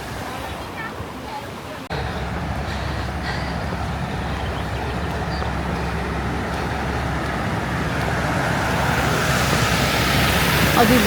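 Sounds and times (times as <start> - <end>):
traffic noise: 0.0 - 11.0
vehicle engine humming: 1.9 - 11.0.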